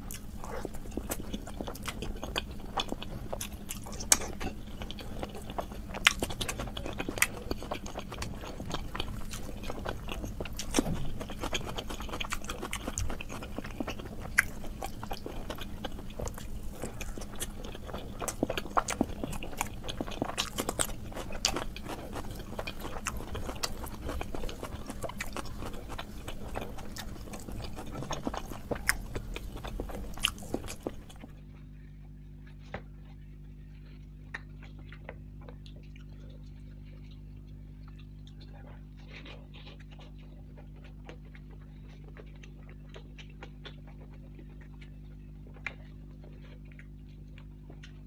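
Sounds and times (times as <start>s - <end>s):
man chewing food: 0.0s - 48.0s
steady low hum: 0.0s - 48.0s.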